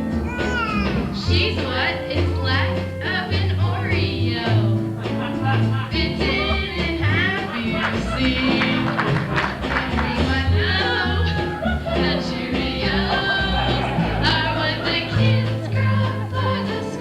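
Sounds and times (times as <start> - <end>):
song with singing: 0.0 - 17.0
steady bass line: 0.0 - 17.0.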